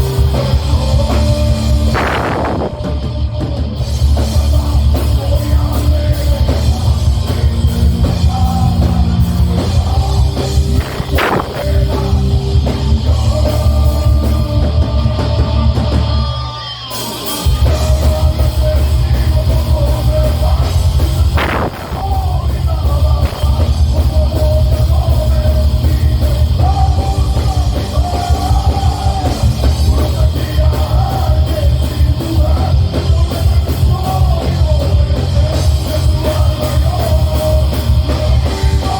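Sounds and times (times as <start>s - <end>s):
pounding bass and drums: 0.0s - 16.4s, 17.3s - 38.9s
distorted guitars: 0.0s - 38.9s
heavy metal band playing live: 0.0s - 38.9s.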